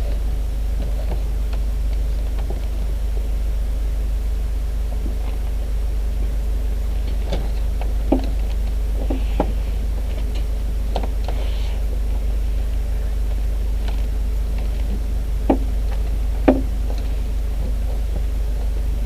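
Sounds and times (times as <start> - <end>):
light aircraft engine drone: 0.0 - 19.0.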